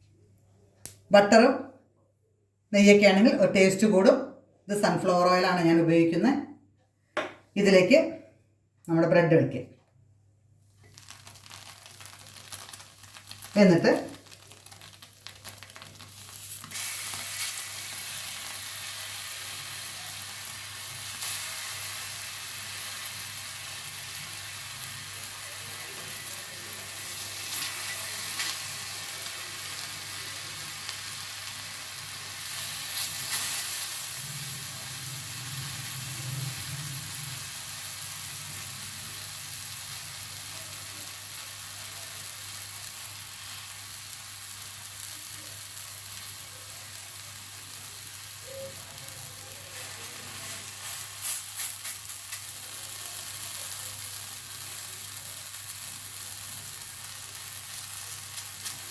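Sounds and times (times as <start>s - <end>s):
bread sizzling in oil: 10.6s - 58.9s.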